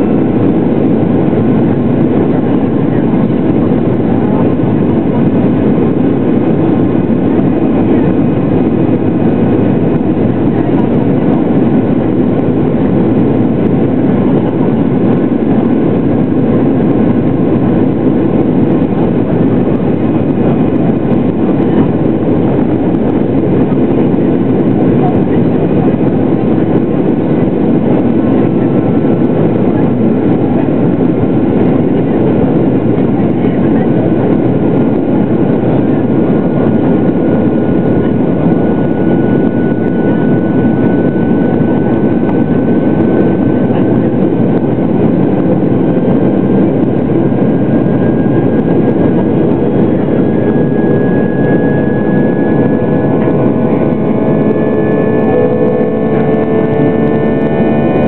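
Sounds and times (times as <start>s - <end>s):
faint steady whine: 0.0s - 58.0s
jet engine drone in cabin: 0.0s - 58.0s
rushing air: 0.0s - 58.0s.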